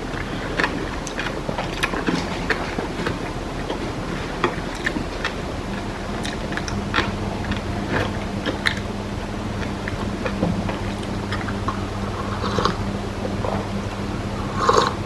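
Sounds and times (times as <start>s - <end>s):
mouth clicks: 0.0s - 15.0s
person chewing food: 0.0s - 15.0s
steady low hum: 0.0s - 15.0s.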